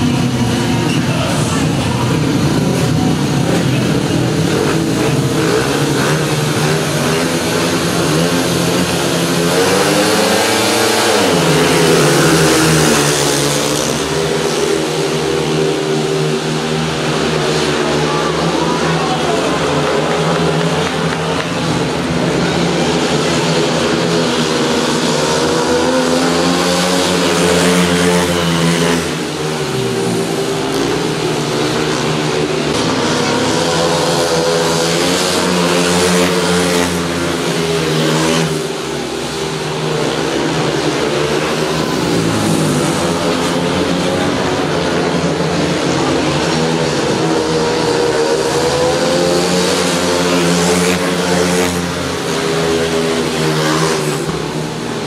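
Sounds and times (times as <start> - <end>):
motorcycles racing at high revs: 0.0 - 55.0.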